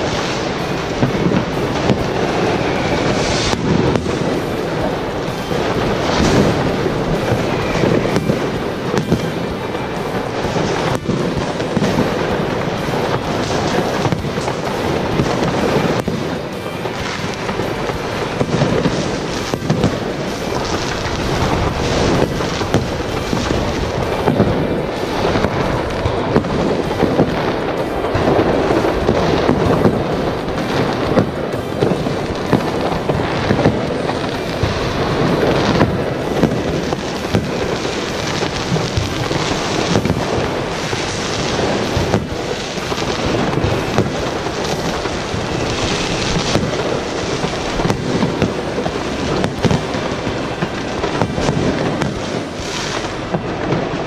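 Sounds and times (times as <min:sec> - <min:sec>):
fireworks bangs crackles and booms: 0:00.0 - 0:54.0.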